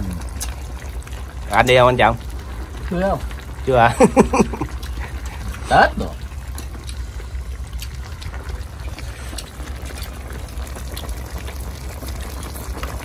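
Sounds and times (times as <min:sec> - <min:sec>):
broth simmering and bubbling: 0:00.0 - 0:13.0.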